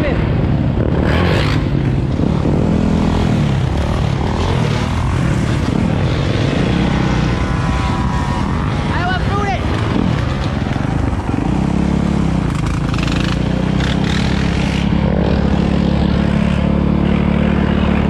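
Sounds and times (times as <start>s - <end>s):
dirt bike engines revving: 0.0s - 18.0s
wind rushing on microphone: 0.0s - 18.0s.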